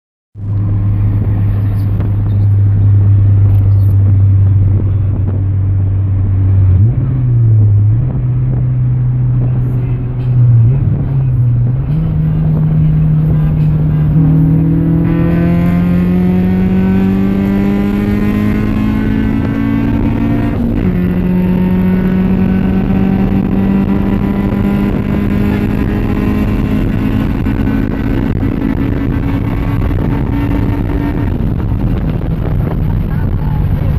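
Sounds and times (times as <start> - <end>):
car engine accelerating hard: 0.4 - 33.9.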